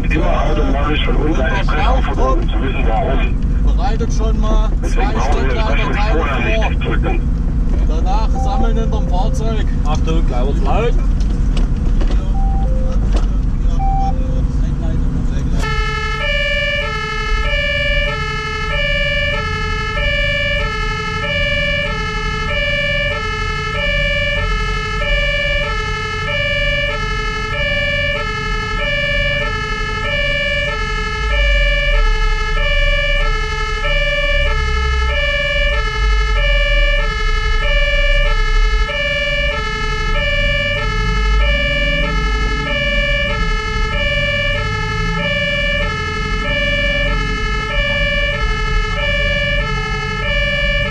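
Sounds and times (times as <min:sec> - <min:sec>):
two-tone siren: 0:00.0 - 0:03.4, 0:04.8 - 0:07.2, 0:08.2 - 0:09.8, 0:12.3 - 0:14.5, 0:15.5 - 0:50.9
truck engine rumbling: 0:00.0 - 0:50.9.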